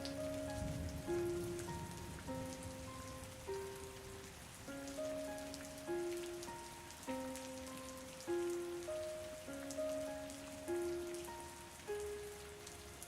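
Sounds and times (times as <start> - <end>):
slow gentle melody: 0.0 - 13.0
steady rain: 0.0 - 13.0.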